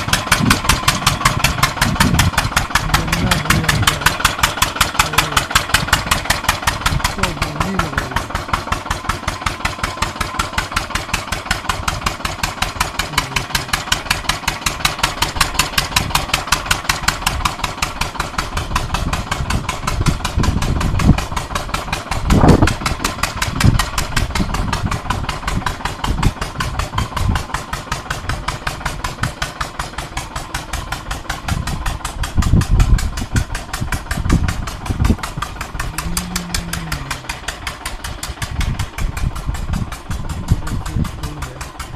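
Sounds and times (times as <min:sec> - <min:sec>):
farm engine running: 0:00.0 - 0:41.9.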